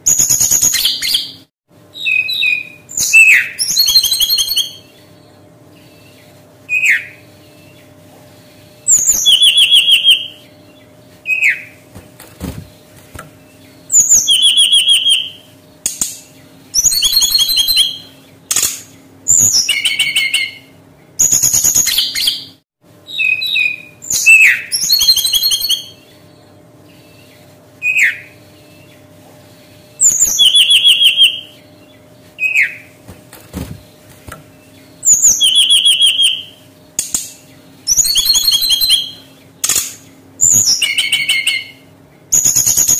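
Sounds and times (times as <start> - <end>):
bird singing whistles and trills: 0.0 - 7.9, 8.8 - 11.8, 13.4 - 29.0, 29.9 - 32.9, 34.5 - 42.9
faint steady hum: 0.0 - 42.9.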